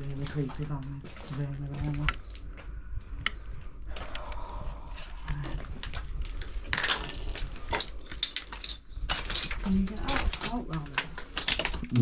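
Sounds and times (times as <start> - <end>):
clicks crackles and rustling: 0.0 - 12.0.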